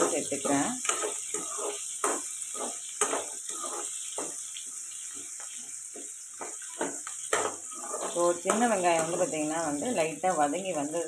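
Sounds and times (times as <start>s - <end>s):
spatula clacks: 0.0s - 10.2s
onions sizzling in oil: 0.0s - 11.0s
spatula scraping pan: 0.0s - 11.0s.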